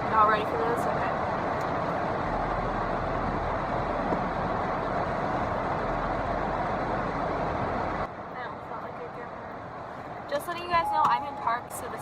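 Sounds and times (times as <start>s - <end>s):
steady rushing noise in car: 0.0s - 12.0s.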